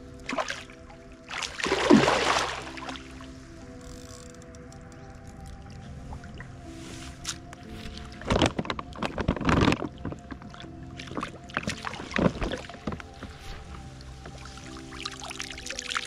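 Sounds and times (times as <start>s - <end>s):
water splashing: 0.0s - 6.8s, 7.7s - 16.0s.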